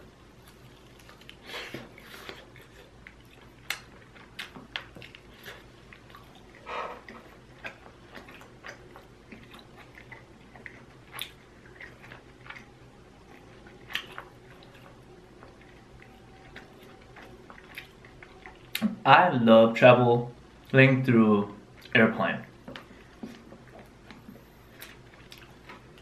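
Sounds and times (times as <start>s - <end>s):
person chewing: 0.3s - 19.0s, 21.7s - 26.0s.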